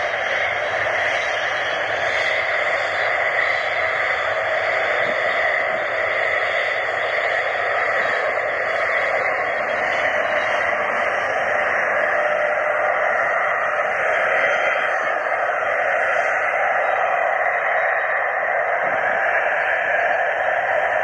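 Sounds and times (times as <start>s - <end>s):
jet engines taxiing: 0.0s - 21.0s.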